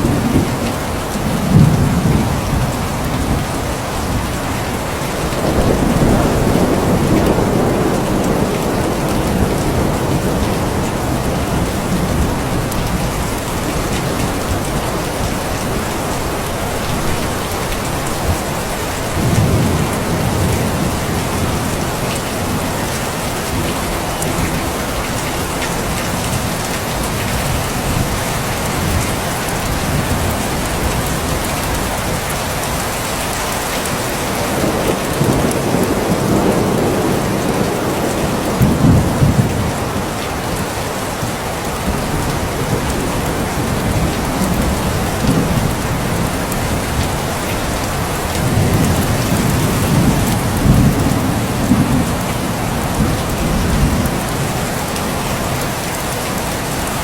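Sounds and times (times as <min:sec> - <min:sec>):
heavy rainfall: 0:00.0 - 0:57.0
thunder rumbles: 0:00.0 - 0:57.0.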